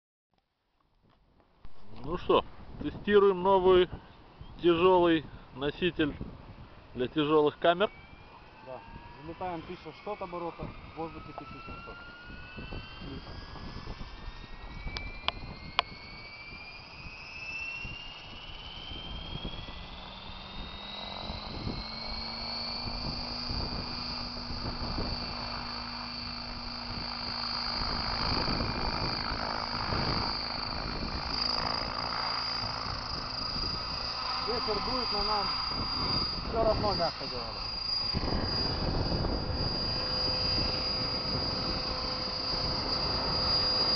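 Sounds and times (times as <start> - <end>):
model helicopter rotor whine: 1.0 - 43.9.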